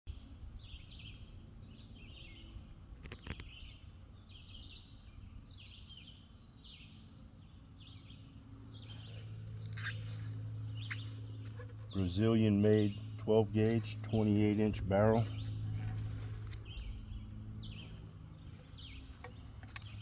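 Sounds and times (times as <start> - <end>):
low steady hum: 0.1 - 20.0
bird chirping: 0.5 - 20.0.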